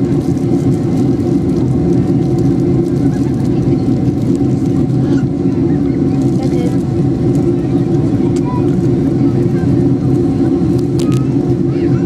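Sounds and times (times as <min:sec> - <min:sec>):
jet engine drone in cabin: 0:00.0 - 0:12.0.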